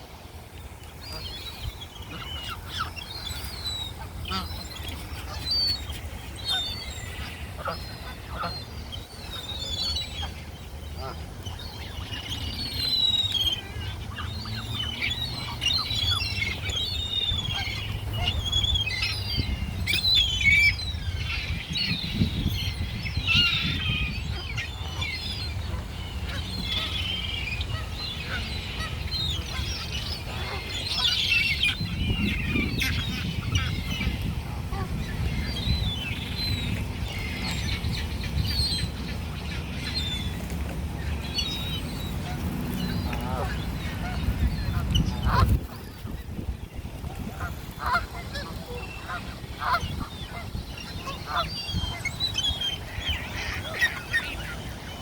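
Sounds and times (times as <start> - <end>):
wild birds calling: 0.9 - 55.0.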